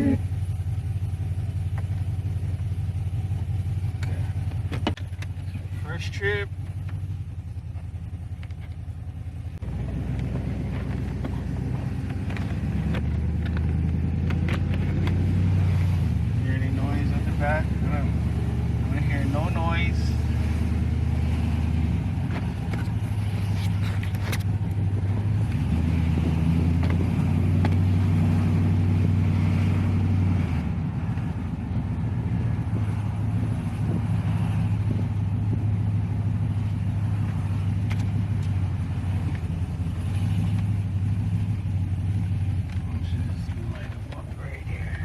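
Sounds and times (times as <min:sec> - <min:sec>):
truck engine and exhaust running: 0:00.0 - 0:45.0.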